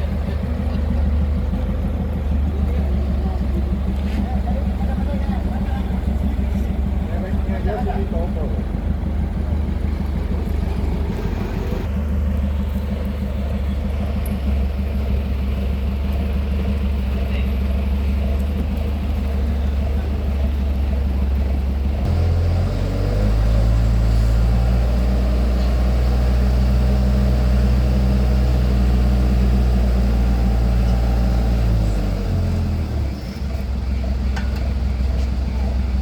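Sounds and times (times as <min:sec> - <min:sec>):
heavy machinery engines droning: 0:00.0 - 0:36.0.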